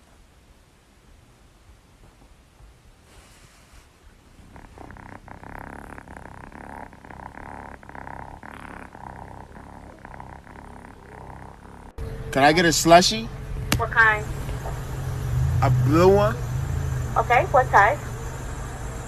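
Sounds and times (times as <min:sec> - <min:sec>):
kitten purring: 0:02.0 - 0:18.2.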